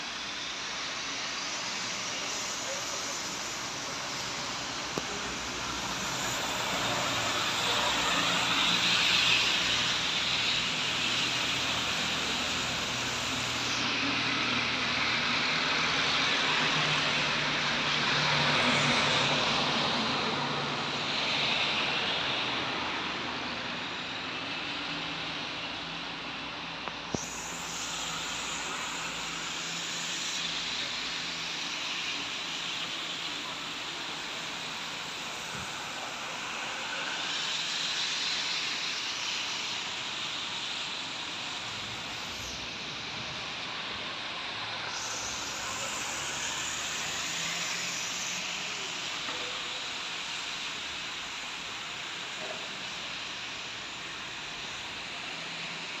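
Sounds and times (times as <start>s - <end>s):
rain hiss: 0.0s - 56.0s
tyres on wet street: 0.0s - 56.0s.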